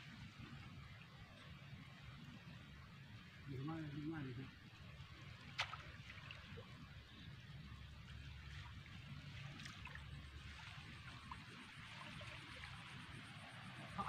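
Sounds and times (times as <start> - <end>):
low steady rumble: 0.0 - 14.0
water trickling and dripping: 0.0 - 14.0.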